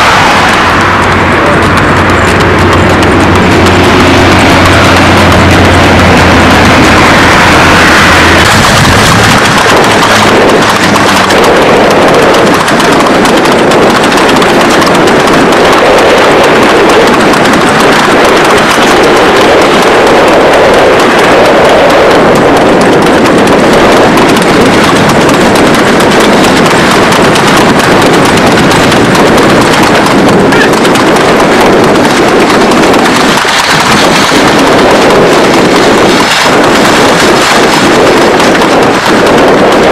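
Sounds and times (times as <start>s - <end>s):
cart wheels rumbling on road: 0.0s - 39.9s
horse hoofbeats: 0.0s - 39.9s
vehicle noise: 0.0s - 39.9s.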